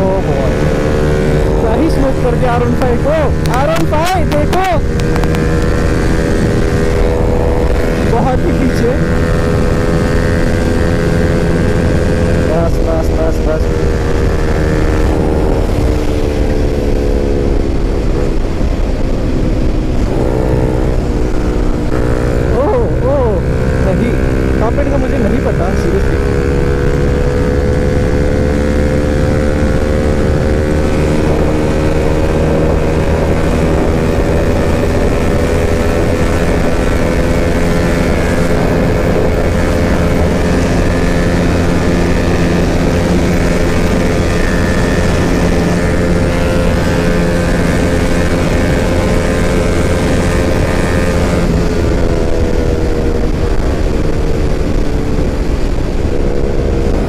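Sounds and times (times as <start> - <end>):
heavy wind rush: 0.0 - 57.0
motorcycle engine at high revs: 0.0 - 57.0.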